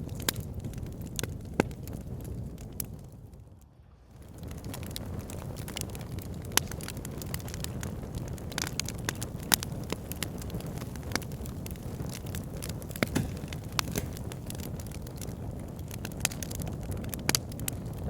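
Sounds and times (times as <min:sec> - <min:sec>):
fire crackling pops: 0:00.0 - 0:03.5, 0:04.1 - 0:18.0
low rumble of flames: 0:00.0 - 0:18.0.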